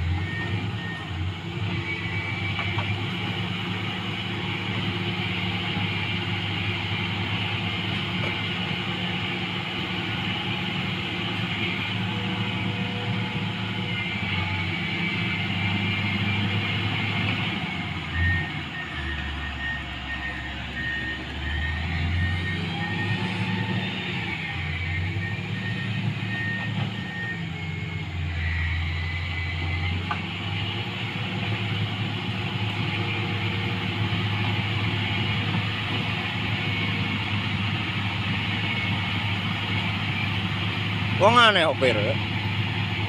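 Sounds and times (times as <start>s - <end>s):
reversing alarm beeping: 0.0s - 4.5s, 5.8s - 43.0s
heavy vehicle engine running: 0.0s - 43.0s.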